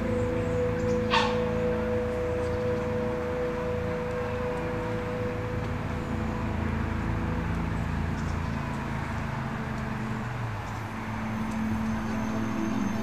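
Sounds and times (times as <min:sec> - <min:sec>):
slow held chords music: 0:00.0 - 0:13.0.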